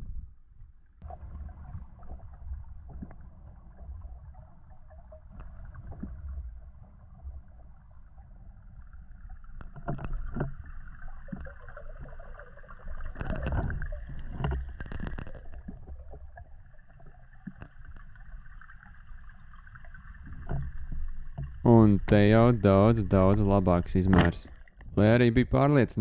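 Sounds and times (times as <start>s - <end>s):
underwater clicks and swishes: 0.0s - 25.0s
underwater water rumble: 0.0s - 26.0s.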